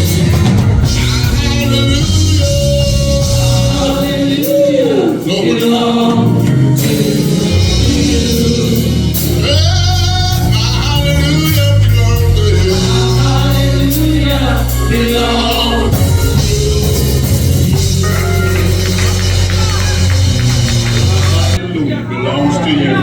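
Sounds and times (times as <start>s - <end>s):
drums: 0.0s - 21.7s
bass line: 0.0s - 22.2s
person singing gospel: 0.0s - 23.0s.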